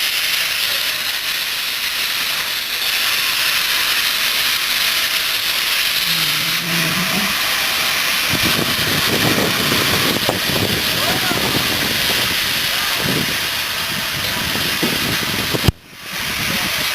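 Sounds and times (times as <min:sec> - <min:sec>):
steam hissing: 0:00.0 - 0:16.9.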